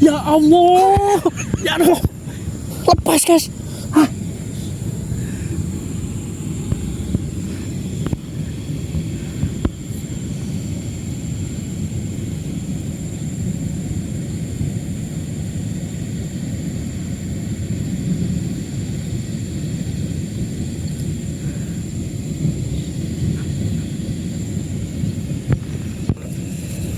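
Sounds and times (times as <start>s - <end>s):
low outdoor rumble: 0.0s - 26.9s.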